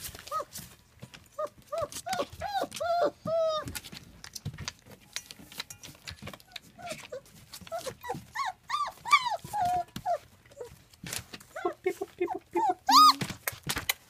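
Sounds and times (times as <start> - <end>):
puppies whining and yelping: 0.0 - 4.2, 6.0 - 13.7
puppies eating from metal bowls: 0.0 - 14.0.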